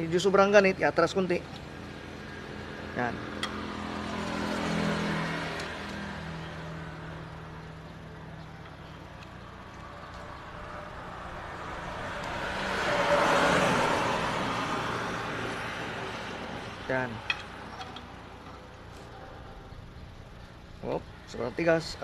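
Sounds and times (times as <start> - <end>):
vehicle passing: 0.0 - 21.9
low engine hum: 0.0 - 22.0.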